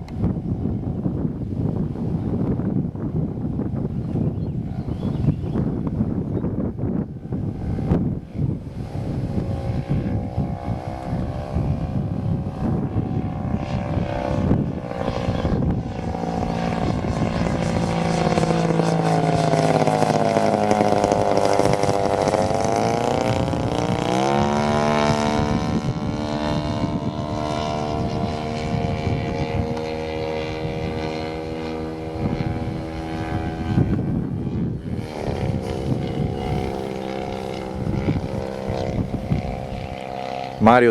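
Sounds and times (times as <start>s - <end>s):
model plane propeller engine buzzing: 0.0s - 40.9s
wind on microphone: 0.0s - 40.9s.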